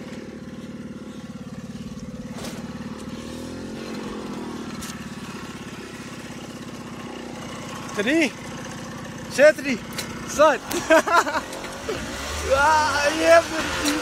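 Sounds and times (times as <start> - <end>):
dirt bike engine idling: 0.0 - 14.0.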